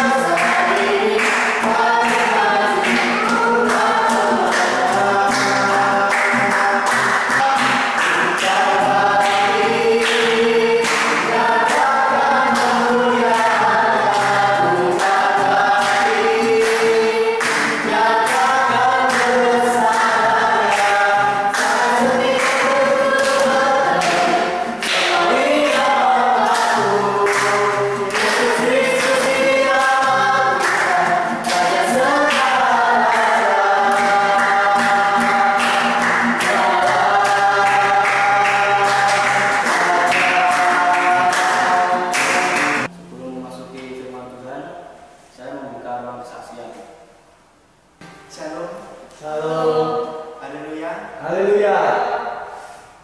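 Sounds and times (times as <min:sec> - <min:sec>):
group singing worship song: 0:00.0 - 0:45.5.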